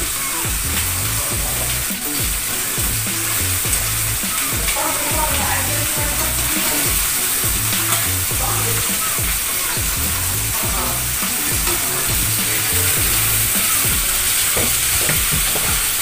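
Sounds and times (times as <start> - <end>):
food sizzling in a pan: 0.0 - 16.0
stirring in a pan: 0.2 - 16.0.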